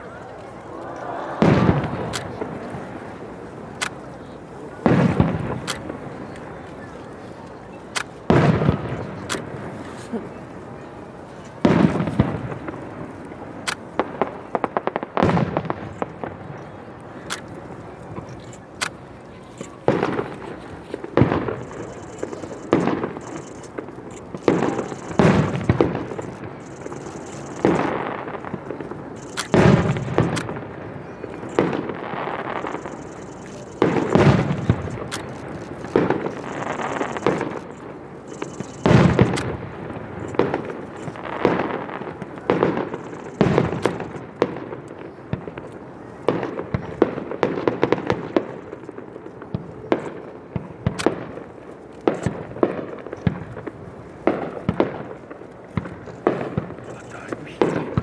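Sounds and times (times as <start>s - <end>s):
fireworks booming with echo: 0.0s - 58.0s.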